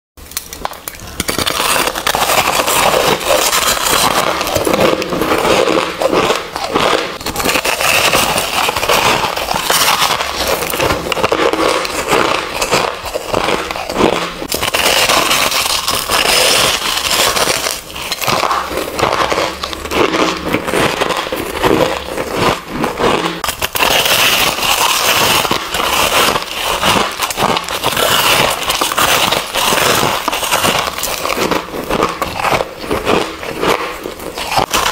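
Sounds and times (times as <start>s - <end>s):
crushed ice being chewed: 0.2s - 34.9s.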